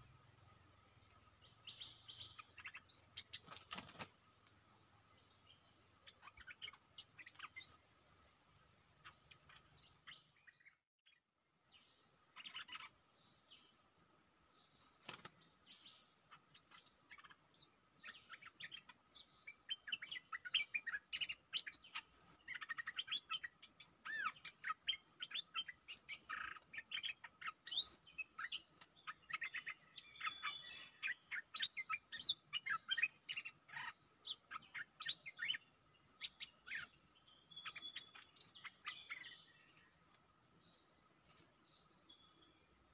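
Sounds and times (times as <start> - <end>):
birds chirping and chattering: 0.0 - 13.8, 14.5 - 42.9.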